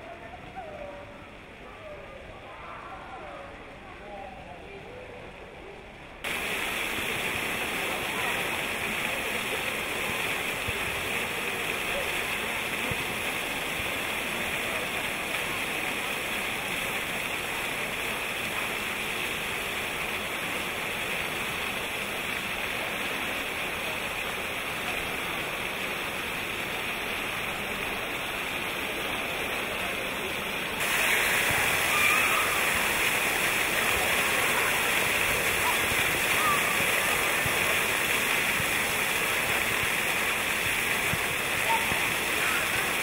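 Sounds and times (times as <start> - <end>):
fountain water splashing: 0.0 - 43.0.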